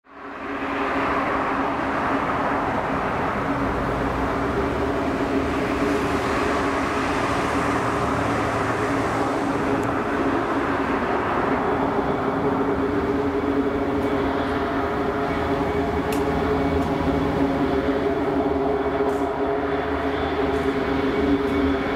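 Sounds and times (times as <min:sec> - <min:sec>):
jet engine drone: 0:00.1 - 0:21.9
low humming tones: 0:00.4 - 0:21.9.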